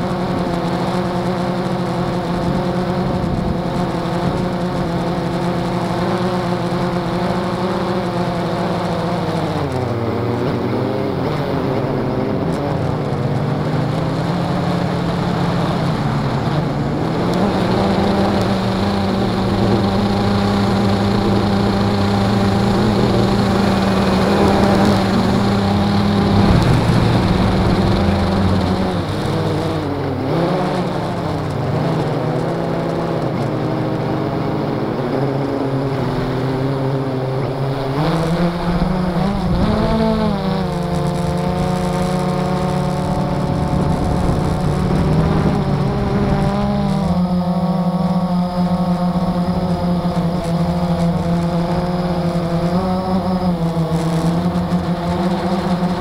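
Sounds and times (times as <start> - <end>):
quadcopter propellers buzzing: 0.0 - 56.0.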